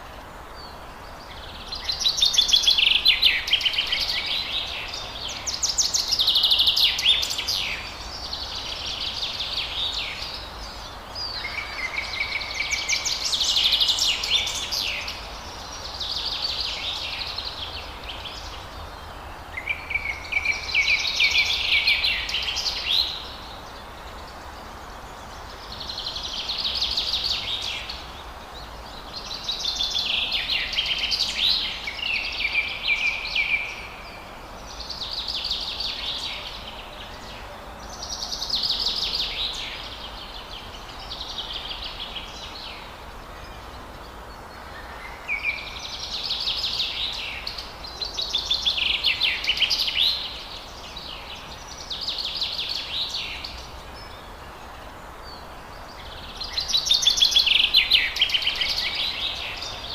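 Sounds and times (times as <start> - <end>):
faint background hiss: 0.0 - 59.9
songbirds singing: 0.0 - 59.9.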